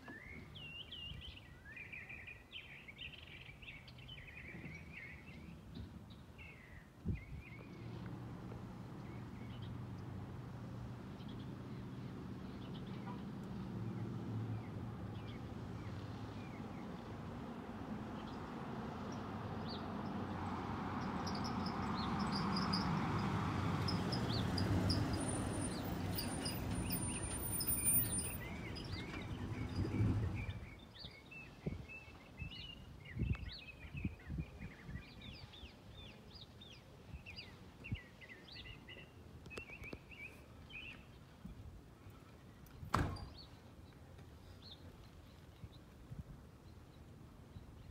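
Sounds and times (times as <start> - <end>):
road noise: 0.1 - 47.9.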